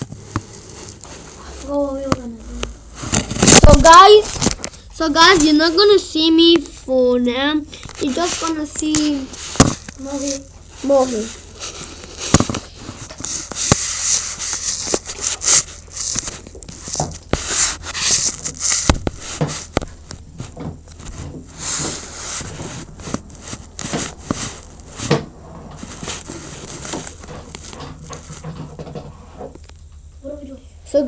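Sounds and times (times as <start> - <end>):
handling noise rustling and rubbing: 0.0 - 30.2.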